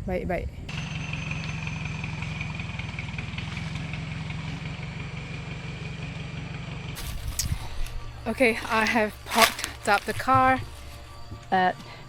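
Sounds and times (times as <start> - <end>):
diesel engine idling: 0.7 - 12.0.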